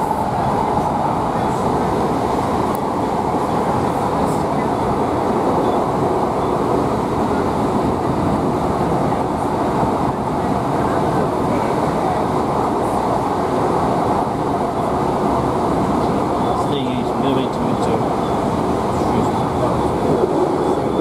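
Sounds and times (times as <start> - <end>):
diesel engine rumble: 0.0 - 21.0
train wheels on rails: 0.0 - 21.0.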